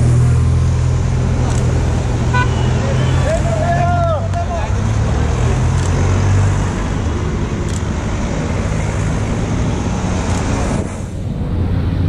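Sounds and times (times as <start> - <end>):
cars driving past: 0.0 - 12.0
tyre noise on road: 0.0 - 12.0.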